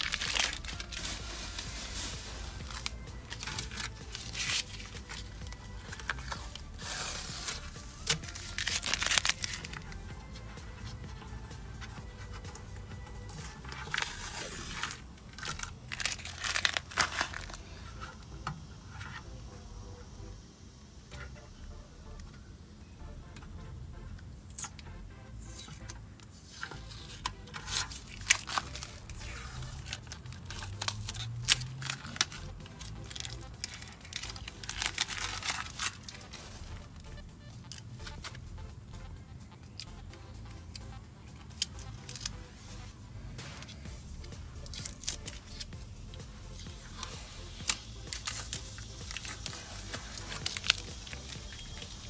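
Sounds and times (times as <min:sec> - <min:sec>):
tape peeling and crumpling: 0:00.0 - 0:18.2, 0:25.5 - 0:39.0, 0:40.7 - 0:52.0.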